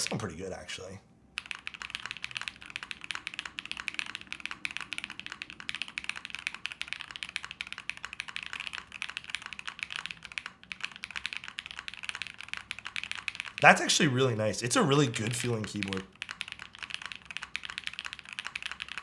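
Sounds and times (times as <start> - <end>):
fast typing on mechanical keyboard: 1.4 - 19.0.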